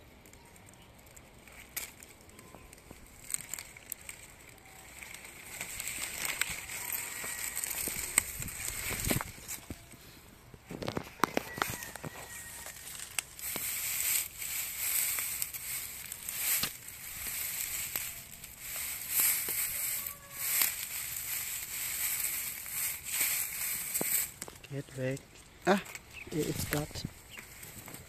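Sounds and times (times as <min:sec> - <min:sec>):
dry grass rustling: 0:00.0 - 0:28.0.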